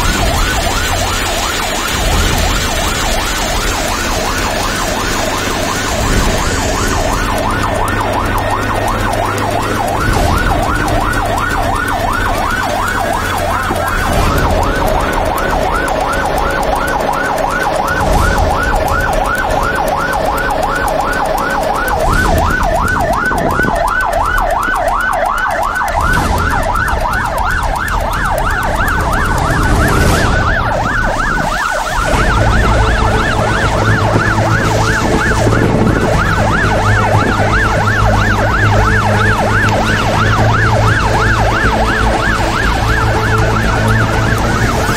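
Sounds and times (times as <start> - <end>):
electronic siren yelping: 0.0 - 44.9
low engine rumble: 0.0 - 44.9.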